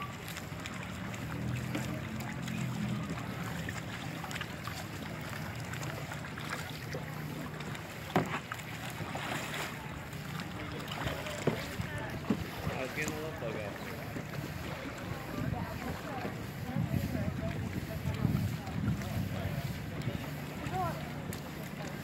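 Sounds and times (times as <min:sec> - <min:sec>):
paddle dipping and dripping: 0:00.0 - 0:22.0
water lapping at hull: 0:00.0 - 0:22.0.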